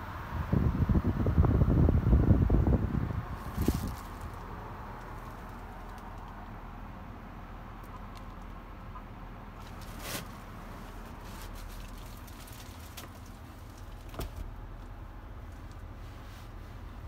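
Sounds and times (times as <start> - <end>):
low hum inside truck cab: 0.0 - 17.0.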